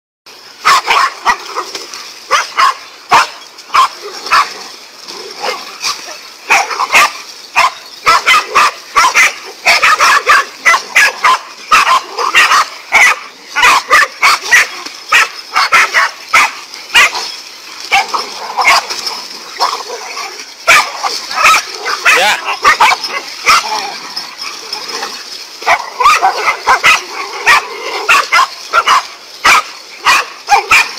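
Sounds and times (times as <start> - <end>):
dogs barking and yelping: 0.5 - 30.9.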